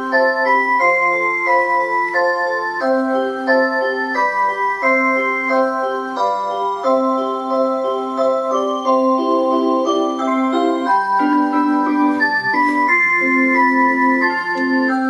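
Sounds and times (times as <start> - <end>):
musical clock tune: 0.0 - 15.0.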